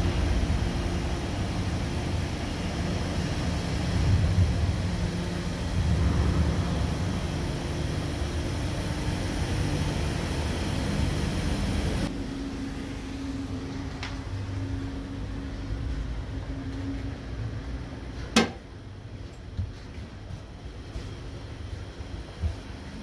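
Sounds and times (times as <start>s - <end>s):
machinery and ventilation hum: 0.0s - 23.0s.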